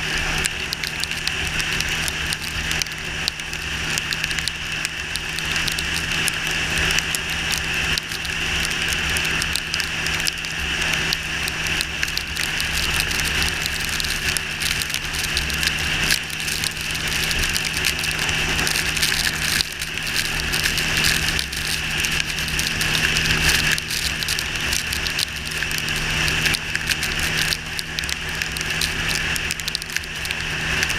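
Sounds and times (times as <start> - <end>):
motorcycle engine running: 0.0 - 30.9
rain and wind on microphone: 0.0 - 30.9.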